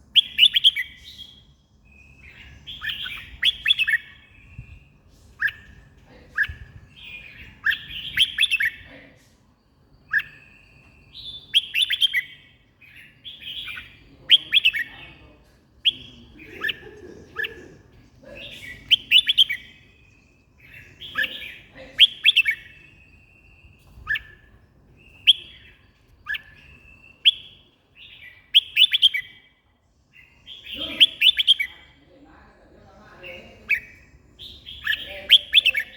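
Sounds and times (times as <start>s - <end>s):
bird chirping whistled phrases: 0.0s - 9.0s, 9.9s - 32.1s, 33.1s - 35.9s.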